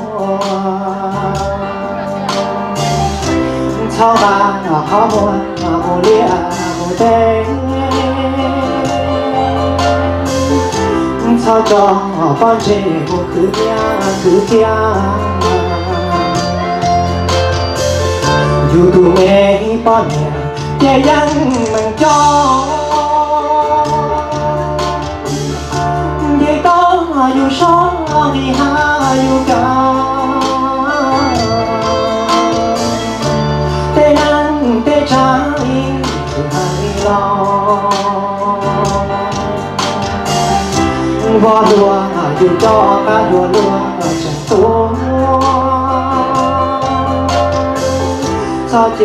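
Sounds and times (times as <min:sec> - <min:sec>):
backing music with bass and beat: 0:00.0 - 0:49.0
man singing into microphone: 0:00.0 - 0:49.0.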